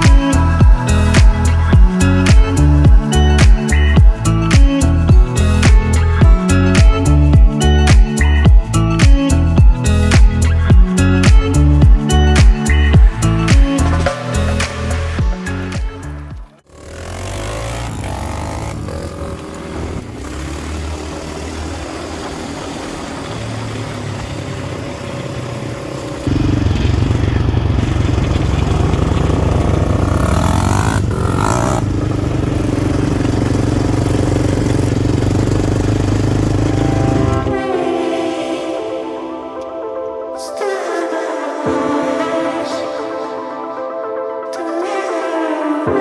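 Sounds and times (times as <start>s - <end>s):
off-road motorcycle engine: 0.0s - 37.8s.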